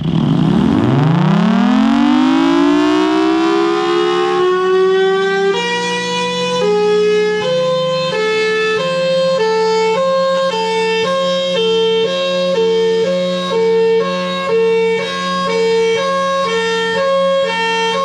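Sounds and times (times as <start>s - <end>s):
tornado siren winding up: 0.0s - 18.0s
two-tone siren signal: 0.0s - 18.0s.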